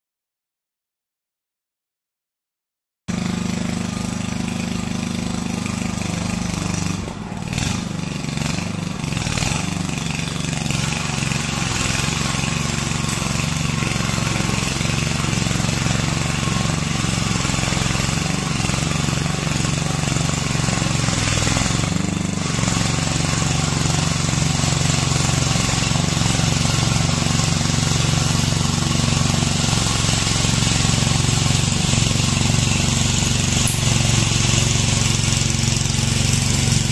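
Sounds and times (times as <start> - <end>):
small petrol engine droning: 3.1 - 36.9
wire brush scraping concrete: 3.4 - 36.9.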